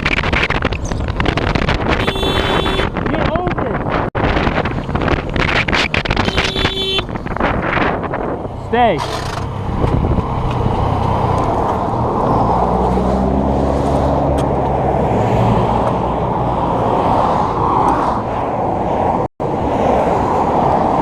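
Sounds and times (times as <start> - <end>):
vehicle engine and traffic rush: 0.0 - 21.0.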